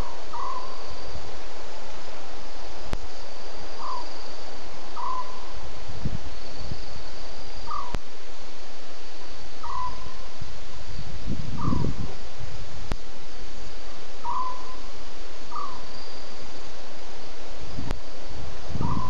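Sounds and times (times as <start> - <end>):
night bird calling: 0.0 - 8.4, 9.0 - 12.7, 13.5 - 19.0
high insect trill: 0.0 - 19.0
steady hiss: 0.0 - 19.0.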